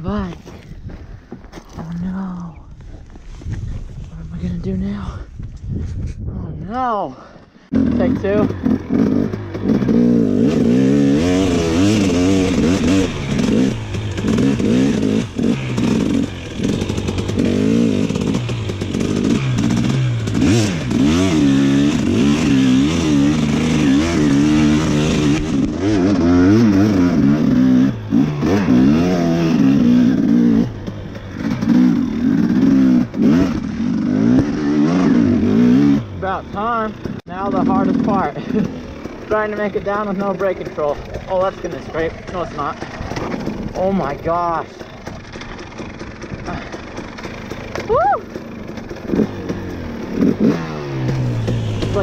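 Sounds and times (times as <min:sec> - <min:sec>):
dirt bike engine revving: 0:07.6 - 0:52.0.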